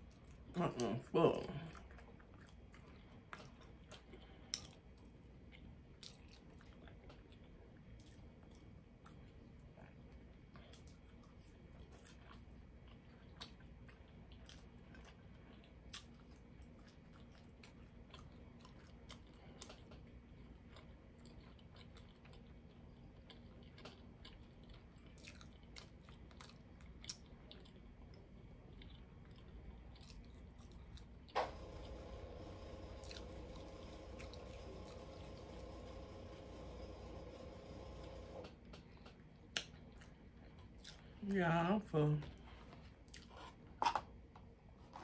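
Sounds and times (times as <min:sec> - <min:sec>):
person chewing with soft smacks: 0:00.0 - 0:31.3, 0:33.0 - 0:35.4, 0:38.5 - 0:45.0.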